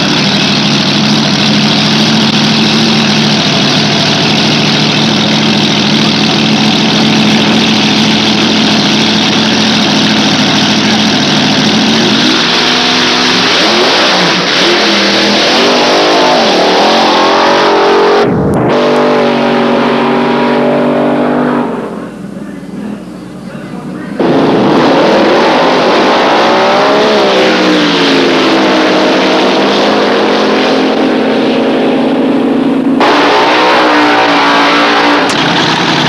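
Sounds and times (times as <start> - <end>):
dragster engine idling and revving: 0.0 - 36.0.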